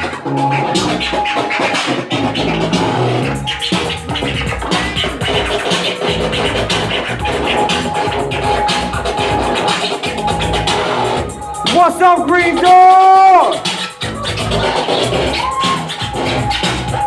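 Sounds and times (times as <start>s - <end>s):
beat with bass line: 0.0s - 17.0s
vinyl record scratching: 0.0s - 17.0s.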